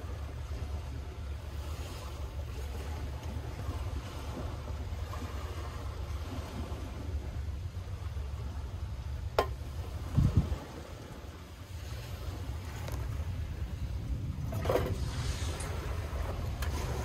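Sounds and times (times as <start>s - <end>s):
surf washing: 0.0s - 17.0s
wind rumble on microphone: 0.0s - 17.0s.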